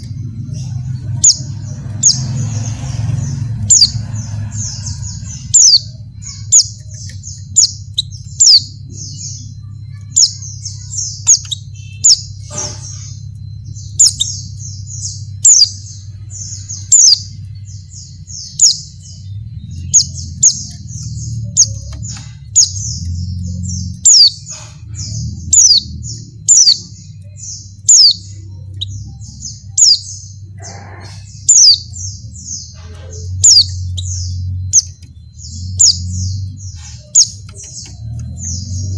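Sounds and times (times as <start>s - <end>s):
bird twittering high chirps: 0.0s - 38.9s.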